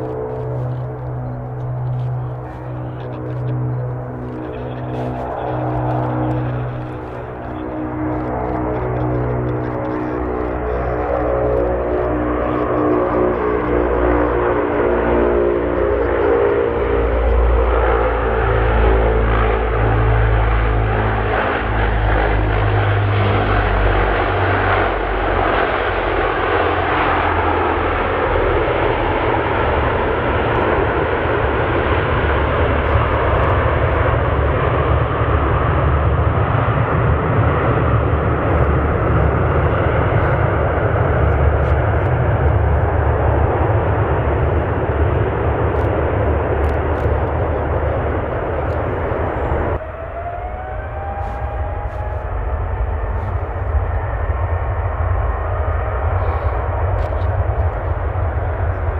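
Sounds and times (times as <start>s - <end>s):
aircraft engine whining: 0.0s - 58.9s
plane rumble and rushing: 0.0s - 58.9s.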